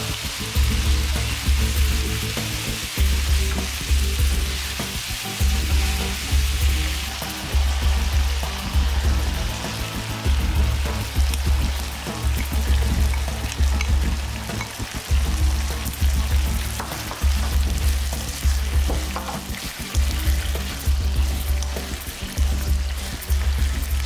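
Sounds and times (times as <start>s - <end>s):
background music with bass beat: 0.0s - 24.0s
food sizzling in a frying pan: 0.0s - 24.0s.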